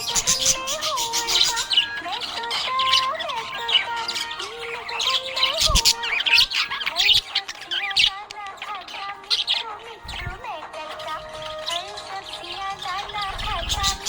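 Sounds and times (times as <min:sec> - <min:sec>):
background music melody: 0:00.0 - 0:14.0
budgies chirping and warbling: 0:00.0 - 0:14.0.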